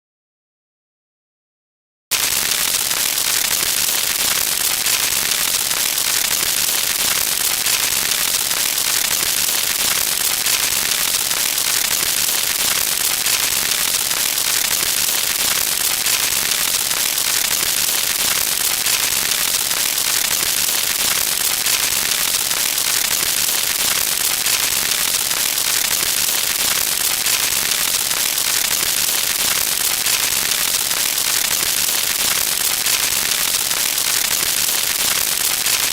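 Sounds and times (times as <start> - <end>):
dense crackling static: 2.1 - 35.9.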